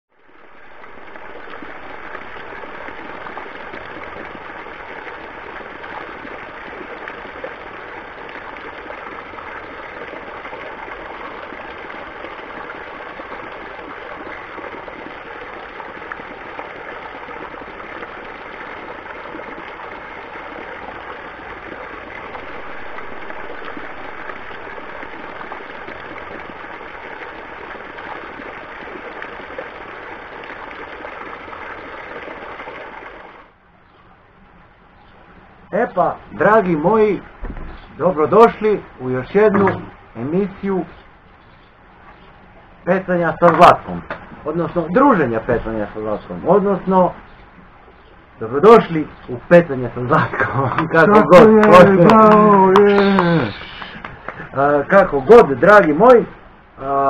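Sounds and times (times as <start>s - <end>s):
water splashing from fountain spouts: 0.1s - 57.0s.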